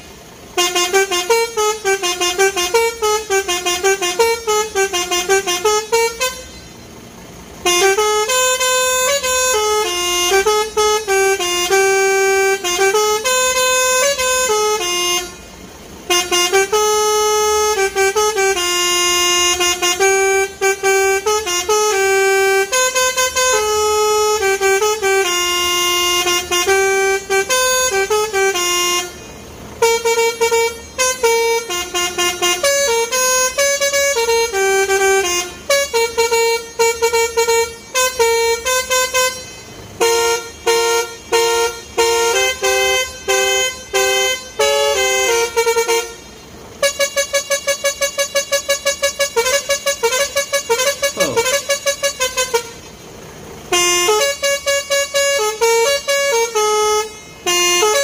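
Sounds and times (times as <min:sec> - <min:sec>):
truck air horns playing tune: 0:00.0 - 0:58.0.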